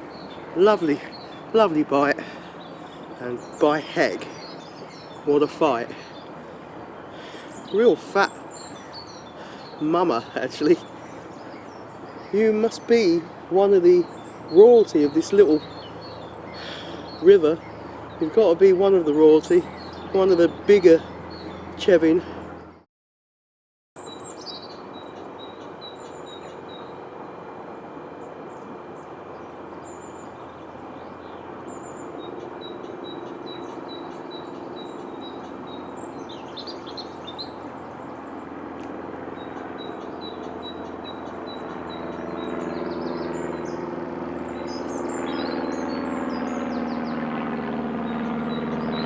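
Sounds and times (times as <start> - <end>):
songbirds singing: 0.0 - 22.8, 24.0 - 49.0.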